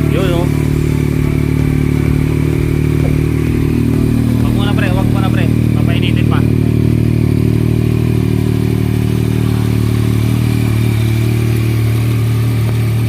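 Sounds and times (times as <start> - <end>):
motorcycle engine idling loudly: 0.0 - 13.0.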